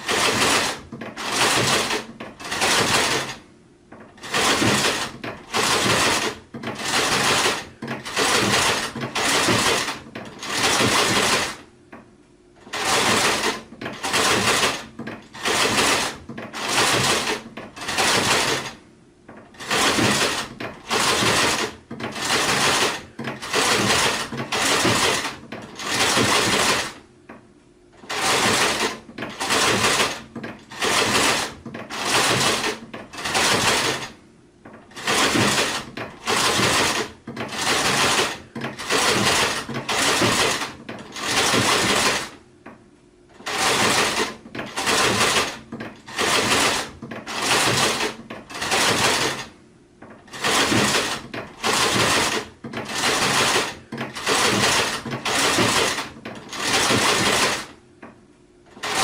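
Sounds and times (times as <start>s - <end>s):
sewing machine stitching: 0.0s - 11.7s, 12.6s - 27.0s, 28.0s - 42.4s, 43.3s - 57.8s, 58.7s - 59.0s.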